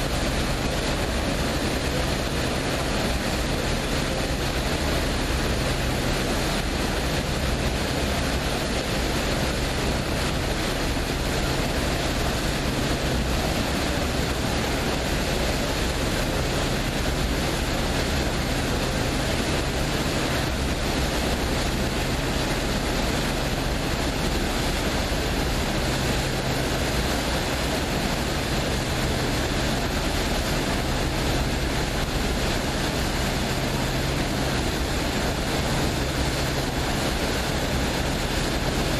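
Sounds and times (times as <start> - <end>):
boat engine humming: 0.0 - 38.9
water rushing along hull: 0.0 - 38.9
wind: 0.0 - 38.9.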